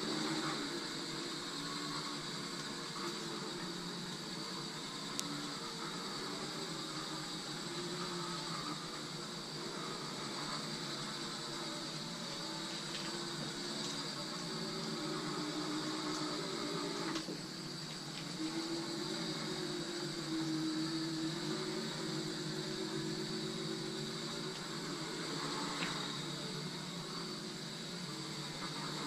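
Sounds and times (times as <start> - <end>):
electric motor humming and whining: 0.0 - 29.0.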